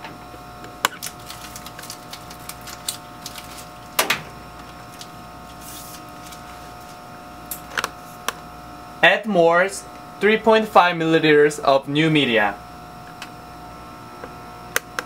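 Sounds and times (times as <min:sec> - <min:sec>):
cabinet blower hum: 0:00.0 - 0:15.0.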